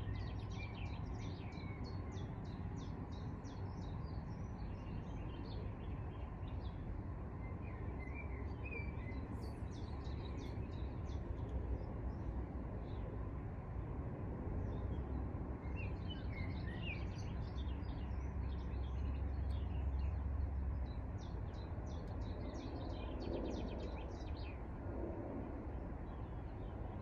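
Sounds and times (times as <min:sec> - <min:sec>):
songbirds chirping and trilling: 0:00.0 - 0:27.0.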